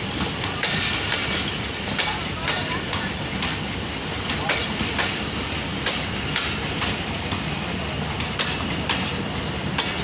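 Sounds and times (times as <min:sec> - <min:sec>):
train wheels clickety-clack: 0:00.0 - 0:10.0.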